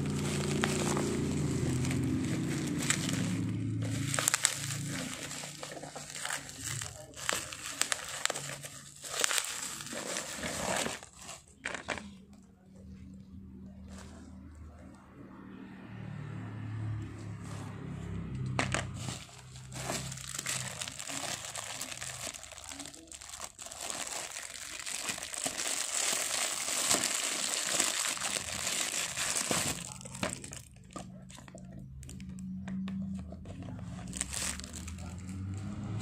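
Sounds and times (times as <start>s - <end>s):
plastic wrapping crinkling: 0.0s - 12.1s, 18.6s - 35.4s.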